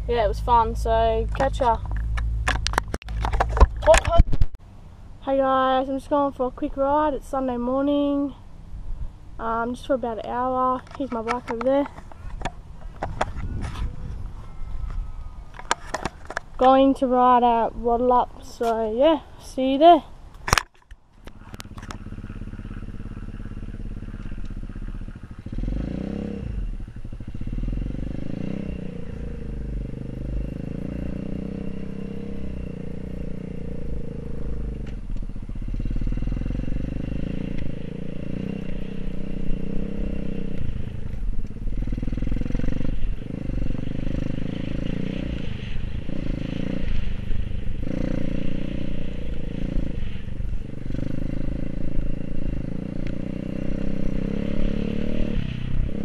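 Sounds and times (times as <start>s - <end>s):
dirt bike engine: 0.0s - 4.5s, 9.3s - 56.0s.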